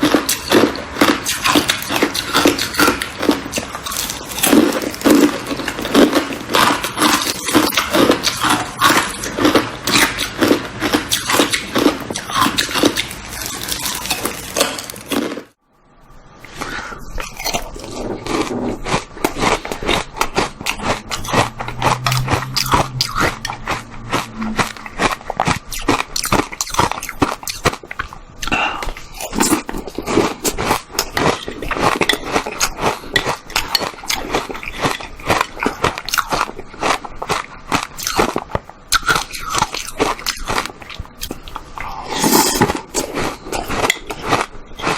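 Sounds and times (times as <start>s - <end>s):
ice crunching and chewing: 0.0s - 15.6s, 16.4s - 44.9s.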